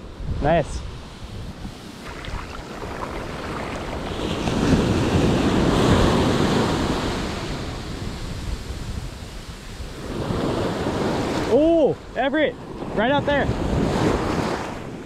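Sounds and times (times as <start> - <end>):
ocean surf washing up beach: 0.0 - 15.0
wind buffeting microphone: 0.0 - 15.0.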